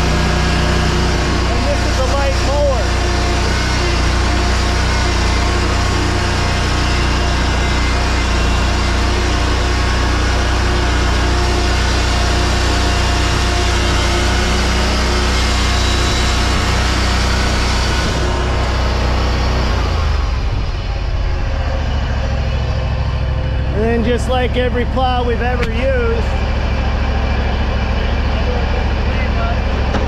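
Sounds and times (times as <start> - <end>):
mower engine running: 0.0 - 30.0.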